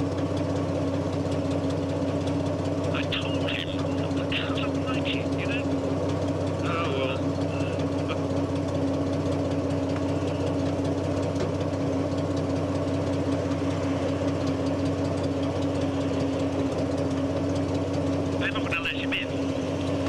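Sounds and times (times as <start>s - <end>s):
petrol engine running: 0.0s - 20.0s.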